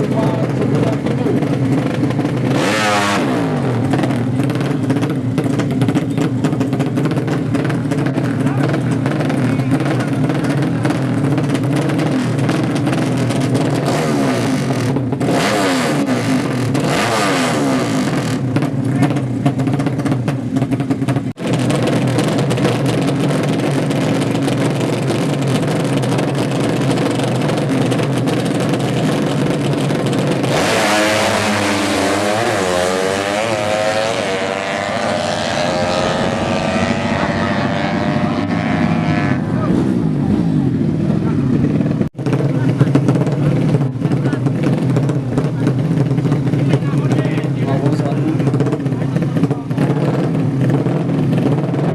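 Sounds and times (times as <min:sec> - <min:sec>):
motorcycle accelerating through gears: 0:00.0 - 0:51.9
motorcycle engines running: 0:00.0 - 0:51.9.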